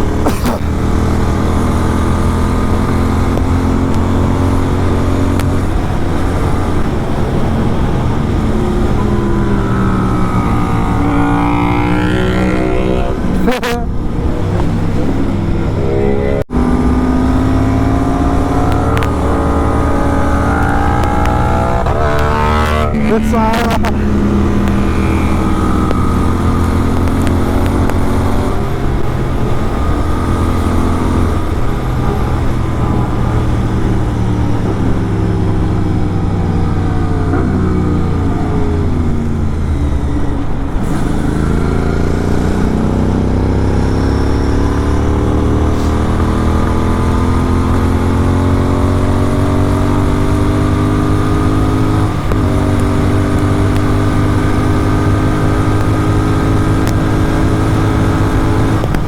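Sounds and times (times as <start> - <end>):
gear changes: 0.0 - 59.0
motorcycle engine: 0.0 - 59.0.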